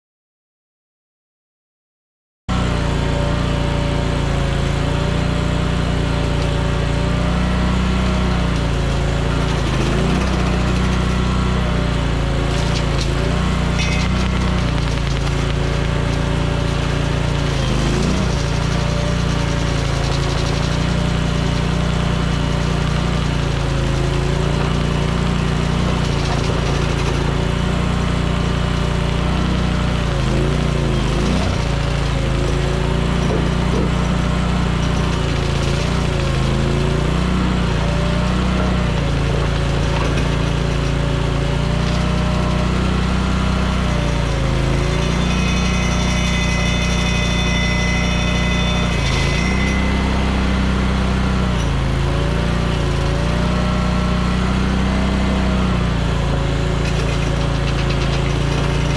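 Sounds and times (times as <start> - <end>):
flail mower cutting brush: 2.5 - 58.9
skid steer engine running: 2.5 - 58.9.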